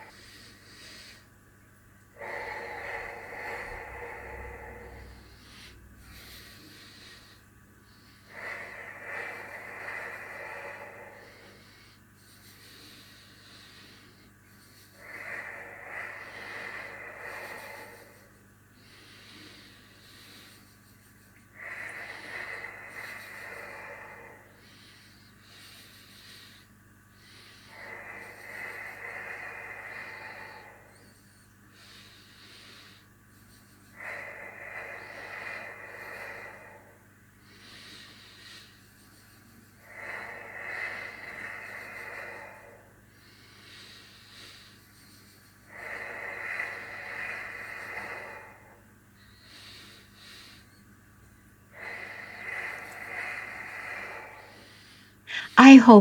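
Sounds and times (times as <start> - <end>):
slow breathing into fist: 2.0 - 55.8.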